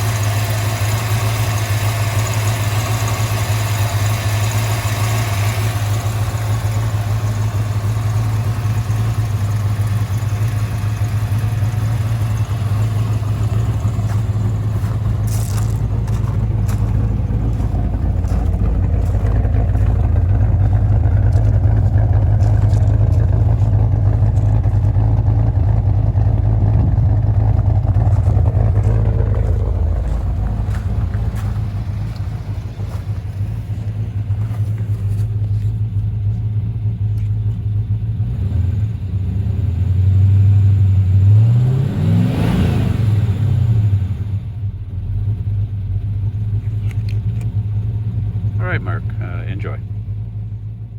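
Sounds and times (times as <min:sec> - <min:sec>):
car engine exhaust rumble: 0:00.0 - 0:50.9.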